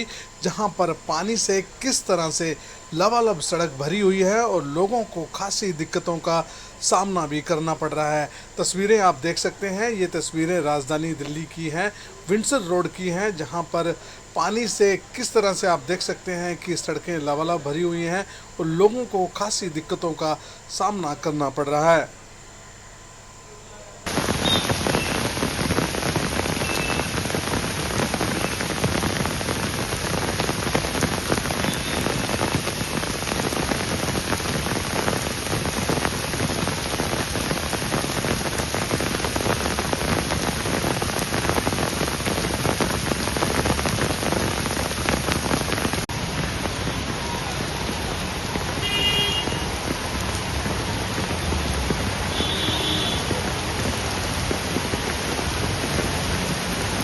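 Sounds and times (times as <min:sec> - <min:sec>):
heavy rain on road: 0:00.0 - 0:20.6, 0:24.1 - 0:57.0.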